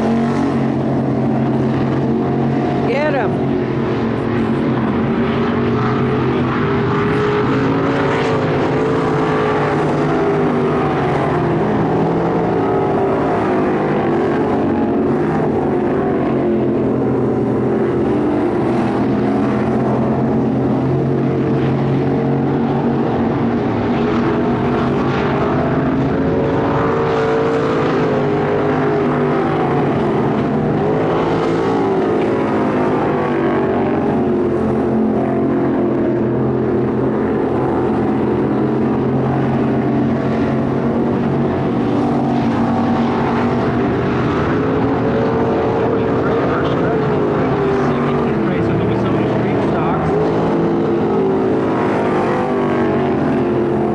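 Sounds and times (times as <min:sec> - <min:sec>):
race car engines: 0:00.0 - 0:53.9.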